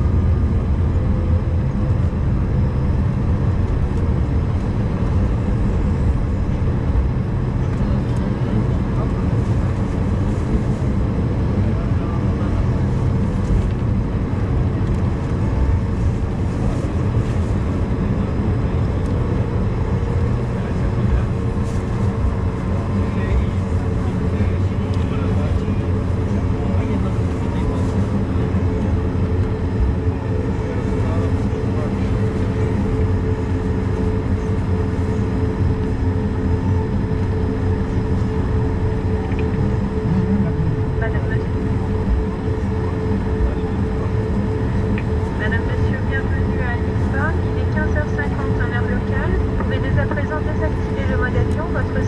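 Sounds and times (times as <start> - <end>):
aircraft cabin low rumble: 0.0 - 52.0
steady hum: 0.0 - 52.0.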